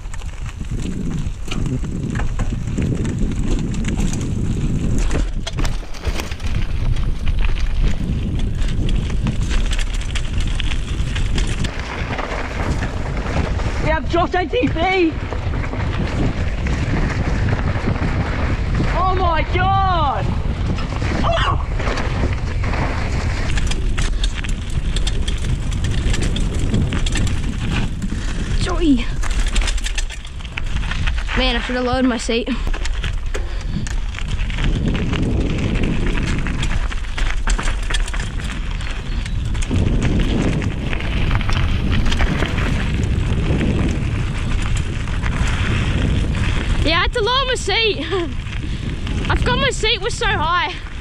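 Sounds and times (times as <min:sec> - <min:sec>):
bike knocking and rattling: 0:00.0 - 0:51.0
bike tyres rumbling on dirt: 0:00.0 - 0:51.0
wind buffeting microphone: 0:00.0 - 0:51.0.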